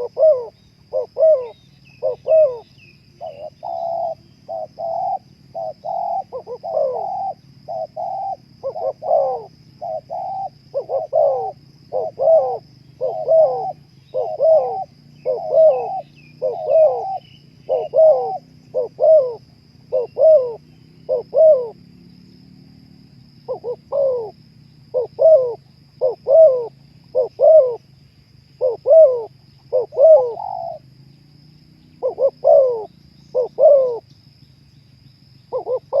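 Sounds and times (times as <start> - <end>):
dove cooing: 0.0 - 21.8, 23.4 - 27.8, 28.6 - 30.9, 31.9 - 34.1, 35.5 - 36.0
faint steady hum: 0.0 - 36.0.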